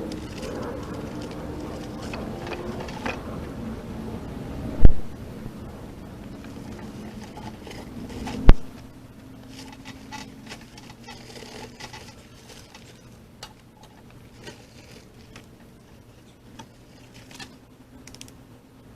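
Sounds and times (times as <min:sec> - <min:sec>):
light clicks and scrapes: 0:00.0 - 0:03.4, 0:06.2 - 0:18.3
concrete mixer humming: 0:00.0 - 0:18.9.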